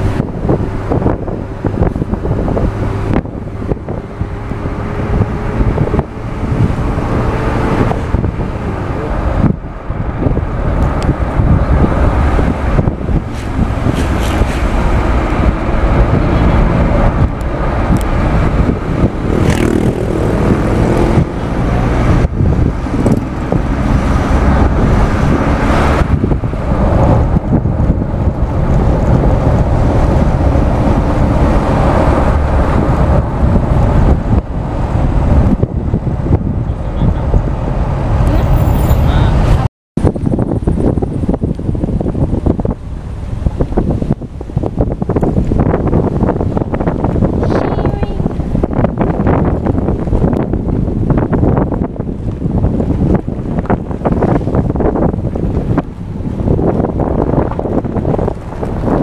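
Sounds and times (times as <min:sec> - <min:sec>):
vehicle engine and road noise: 0:00.0 - 0:59.0
wind buffeting microphone: 0:00.0 - 0:59.0.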